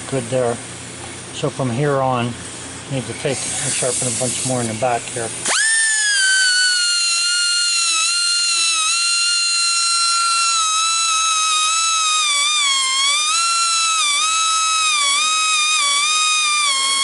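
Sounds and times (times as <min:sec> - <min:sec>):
air grinder whining: 0:03.2 - 0:17.0.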